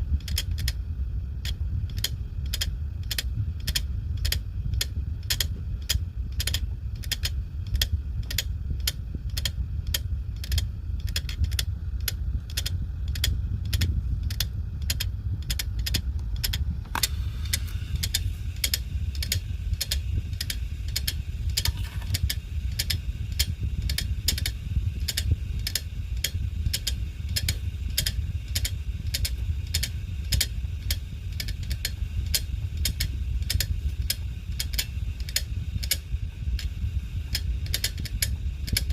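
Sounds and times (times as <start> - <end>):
low hum of spinning drive: 0.0 - 38.9
hard disk drive clicking: 0.1 - 38.9.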